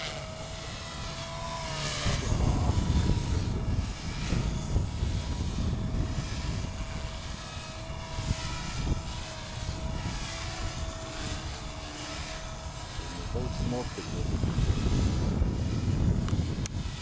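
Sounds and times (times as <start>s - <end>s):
rc helicopter motor whine: 0.0s - 17.0s
wind buffeting microphone: 0.0s - 17.0s.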